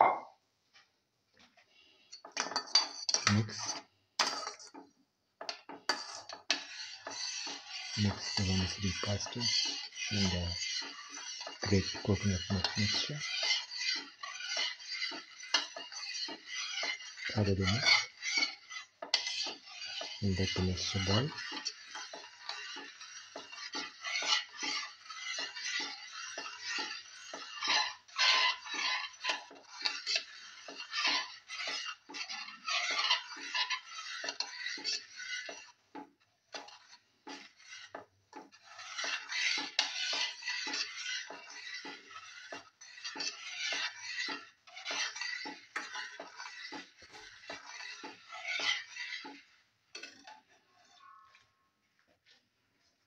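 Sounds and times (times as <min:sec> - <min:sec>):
metal spoon scraping a pan: 0:01.4 - 0:53.0.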